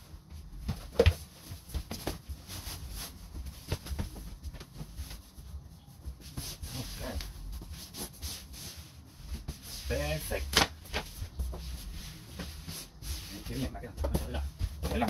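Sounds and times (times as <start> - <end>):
bedsheet rustling and scraping: 0.0 - 15.0.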